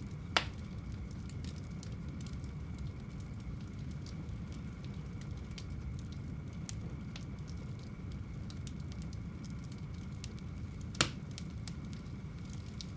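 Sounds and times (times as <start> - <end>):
fire rumbling and crackling: 0.0 - 12.9.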